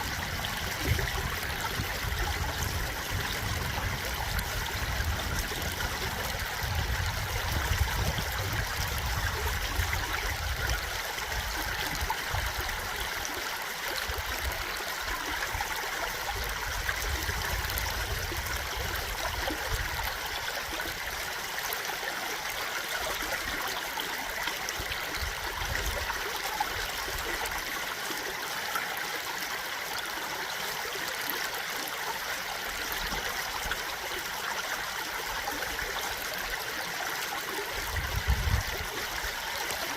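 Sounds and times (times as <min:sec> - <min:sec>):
stream flowing and burbling: 0:00.0 - 0:39.9.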